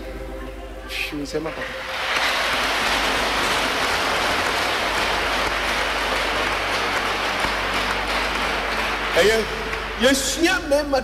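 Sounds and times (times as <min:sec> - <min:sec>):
applause: 0:01.6 - 0:11.0.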